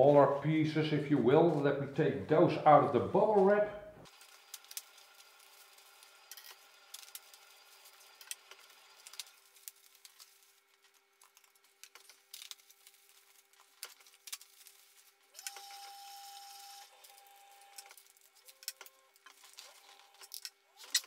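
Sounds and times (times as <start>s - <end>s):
bubble wrap crinkling: 4.1s - 21.0s.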